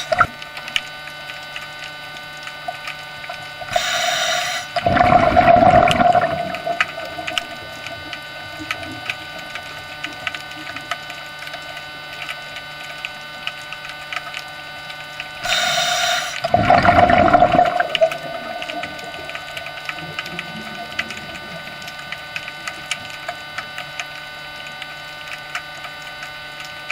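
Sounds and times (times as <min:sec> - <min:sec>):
faint ticks: 0:00.0 - 0:04.9, 0:05.9 - 0:16.6, 0:17.8 - 0:26.9
aquarium equipment humming: 0:00.0 - 0:26.9
water noise: 0:00.0 - 0:26.9.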